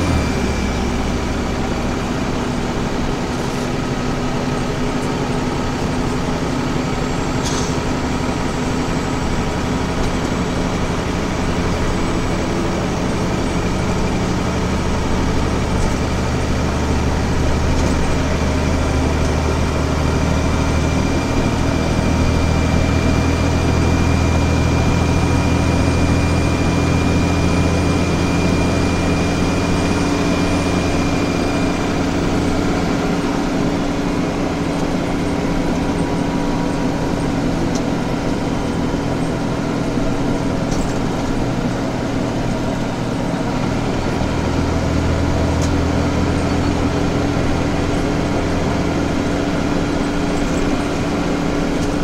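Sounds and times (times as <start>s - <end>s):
bus diesel engine running: 0.0s - 52.0s
high squeal from engine: 3.2s - 39.4s, 44.4s - 51.8s.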